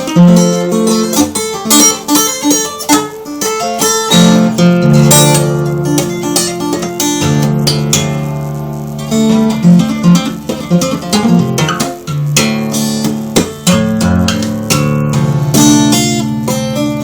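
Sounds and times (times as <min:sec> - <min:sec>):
guitar playing: 0:00.0 - 0:17.0.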